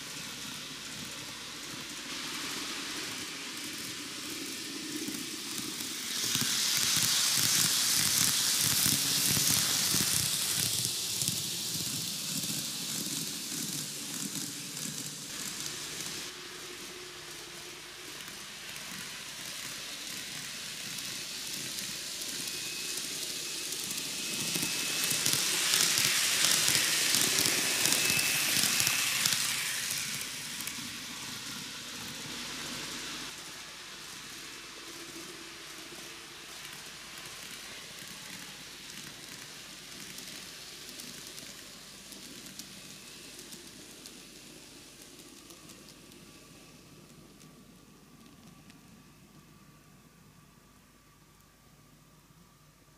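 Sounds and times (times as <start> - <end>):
model train rattling hiss: 0.0 - 46.8.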